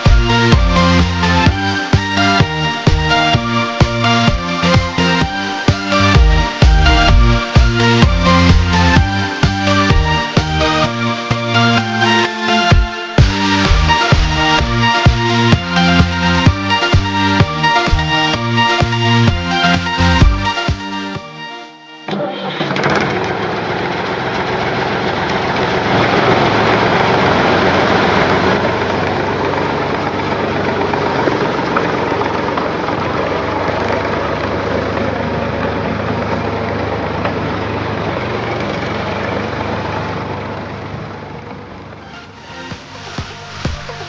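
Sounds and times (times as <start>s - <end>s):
engine running: 0.0s - 21.5s, 22.1s - 44.0s.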